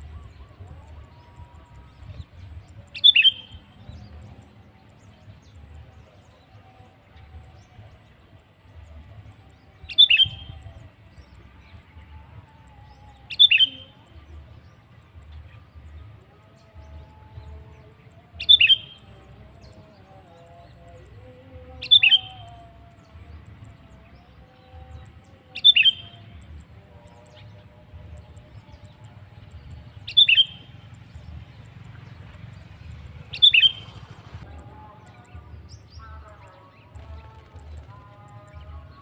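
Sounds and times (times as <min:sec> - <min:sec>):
soft birdsong: 0:00.0 - 0:39.0.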